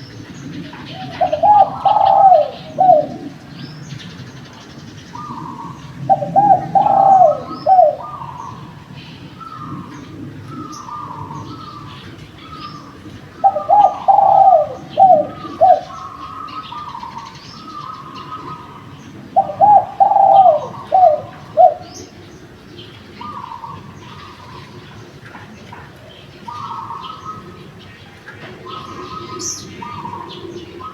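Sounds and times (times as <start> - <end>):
dove cooing: 0.0 - 30.9
faint dove cooing: 0.0 - 30.9
small birds chirping: 0.0 - 30.9.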